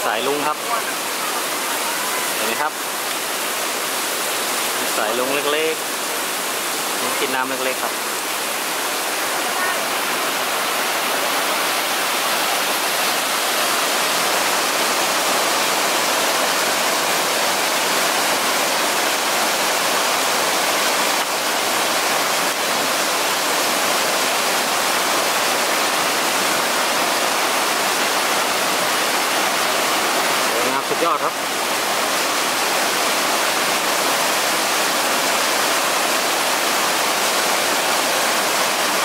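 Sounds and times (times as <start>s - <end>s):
waterfall rushing over rocks: 0.0s - 39.0s.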